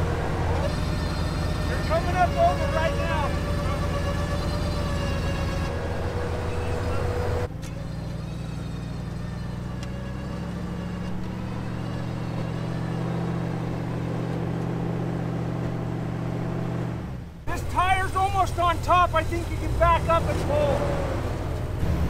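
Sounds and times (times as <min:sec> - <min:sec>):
vehicle engine running at low revs: 0:00.0 - 0:22.0.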